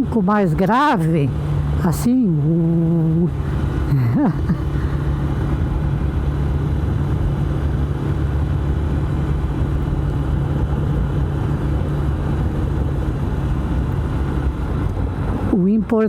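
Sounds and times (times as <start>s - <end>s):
low vibrating drone: 0.0s - 16.0s
motorcycle engine cruising: 0.0s - 16.0s
wind rush: 0.5s - 15.6s.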